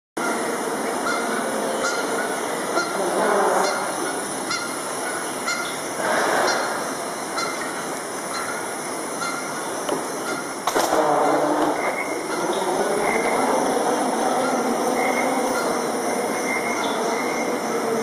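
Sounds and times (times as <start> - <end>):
steady hiss: 0.2 - 18.0
swells of noise: 0.2 - 18.0.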